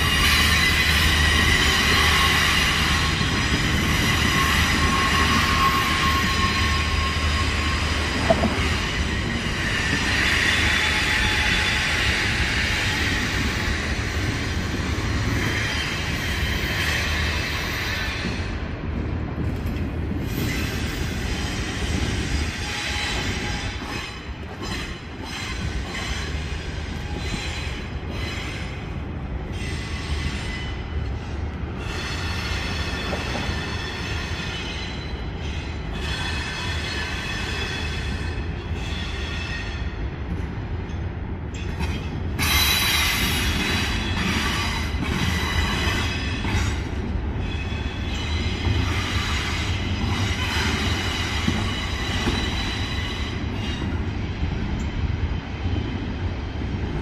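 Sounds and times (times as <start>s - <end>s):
train wheels squealing on rails: 0.0s - 18.8s, 19.4s - 57.0s
train cars rumbling: 0.0s - 57.0s.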